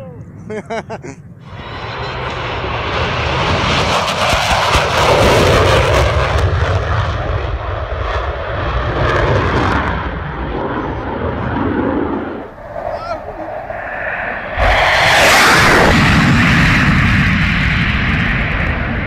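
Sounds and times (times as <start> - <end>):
jet engine rumble low pass: 0.0 - 19.0.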